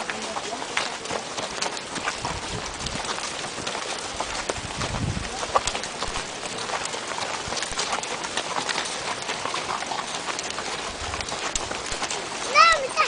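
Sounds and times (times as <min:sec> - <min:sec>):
goat hooves clattering on dirt: 0:00.0 - 0:13.0.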